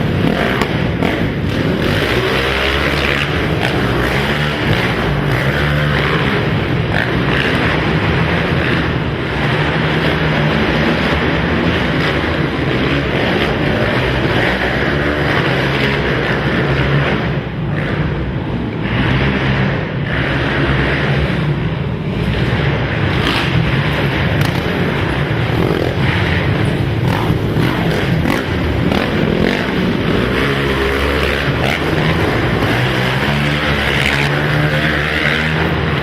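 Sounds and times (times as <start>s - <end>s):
quad racing engines revving: 0.0s - 36.0s.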